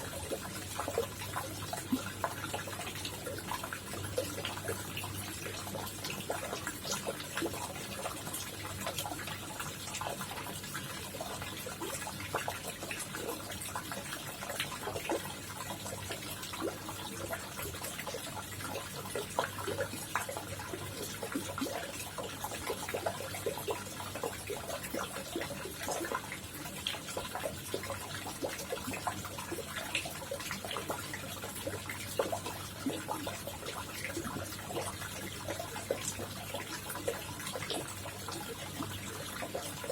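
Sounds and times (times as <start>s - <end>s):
pond water trickling and splashing: 0.0s - 39.9s.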